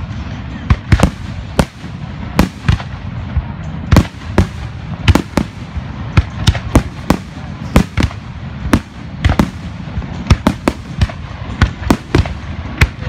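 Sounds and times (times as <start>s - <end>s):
low rumble: 0.0s - 13.0s
fireworks bangs: 0.7s - 13.0s.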